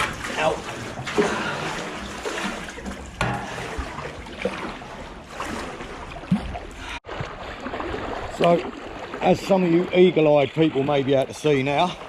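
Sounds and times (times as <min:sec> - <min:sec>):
paddle strokes in water: 0:00.0 - 0:12.0
water splashing and trickling: 0:00.0 - 0:12.0.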